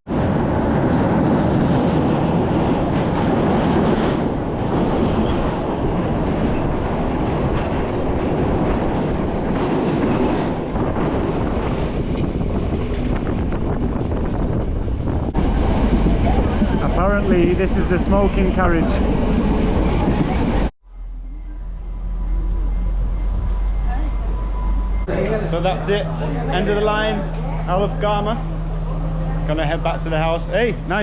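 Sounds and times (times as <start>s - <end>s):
train carriage rumble and rattle: 0.1s - 31.0s.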